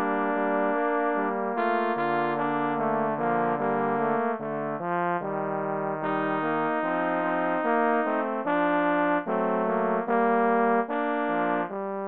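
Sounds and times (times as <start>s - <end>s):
trombones playing sustained chords: 0.0s - 12.0s.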